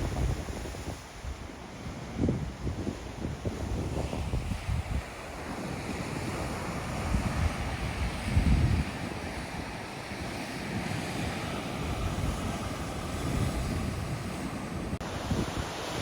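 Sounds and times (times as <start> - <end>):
surf washing: 0.0 - 16.0
wind buffeting microphone: 0.0 - 16.0.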